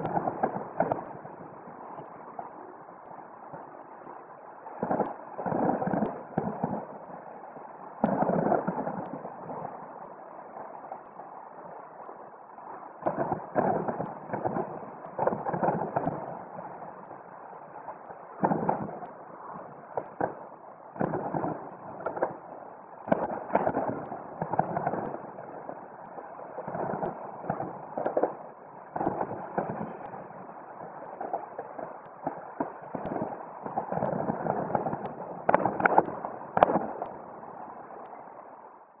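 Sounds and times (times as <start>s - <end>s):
sharp fireworks cracks: 0.0s - 4.1s, 4.8s - 7.4s, 8.0s - 12.2s, 13.0s - 38.5s
distant fireworks booms and crackles: 0.0s - 38.5s.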